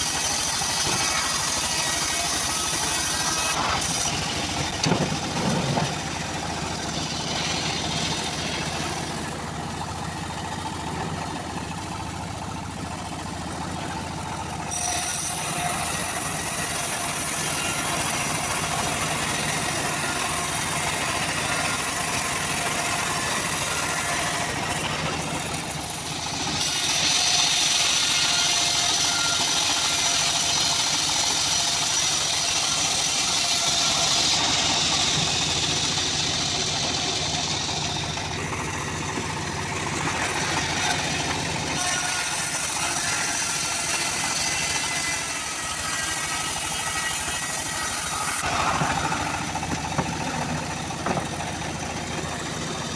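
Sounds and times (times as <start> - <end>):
bandsaw mill running: 0.0 - 52.9.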